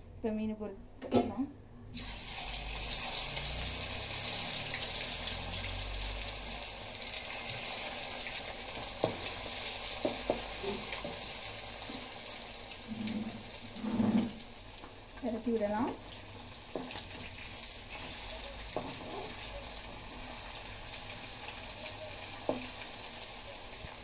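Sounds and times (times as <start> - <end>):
fish sizzling in hot oil: 2.0 - 24.0.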